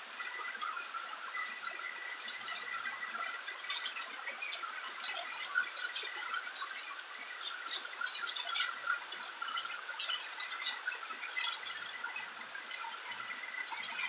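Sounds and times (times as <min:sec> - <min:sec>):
water drips: 0:00.0 - 0:14.0.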